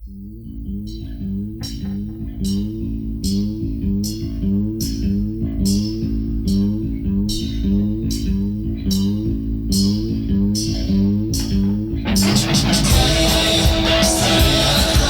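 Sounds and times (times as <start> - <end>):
bass guitar: 0.0 - 15.0
picked electric guitar figure: 0.0 - 15.0.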